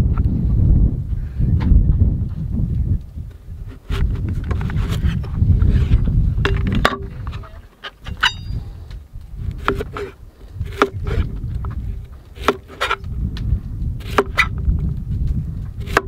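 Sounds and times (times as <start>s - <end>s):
steady low rumble: 0.0s - 12.4s, 13.0s - 15.8s.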